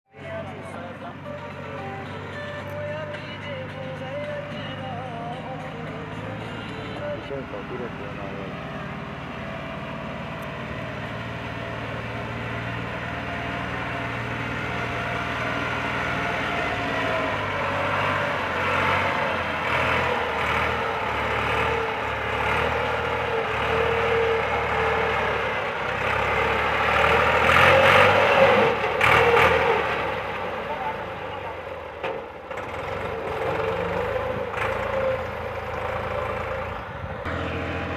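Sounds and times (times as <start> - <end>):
tractor diesel engine revving: 0.1 - 37.9.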